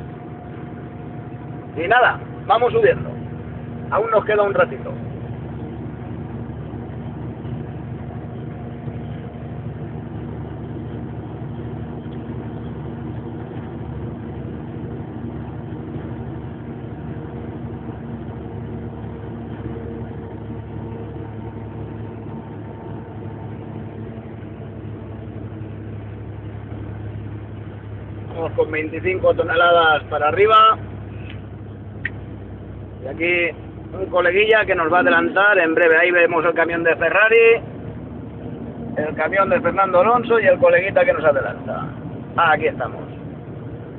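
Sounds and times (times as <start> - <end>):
road noise: 0.0 - 43.9
truck diesel engine drone: 0.0 - 43.9.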